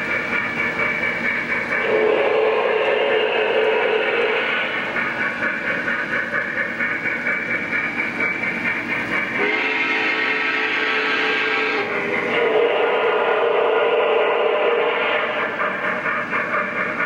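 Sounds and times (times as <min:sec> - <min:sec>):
model steam locomotive sounds: 0:00.0 - 0:17.0.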